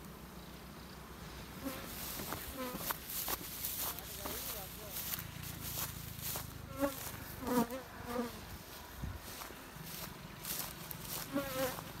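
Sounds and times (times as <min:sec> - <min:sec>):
bees buzzing past: 0:00.0 - 0:12.0.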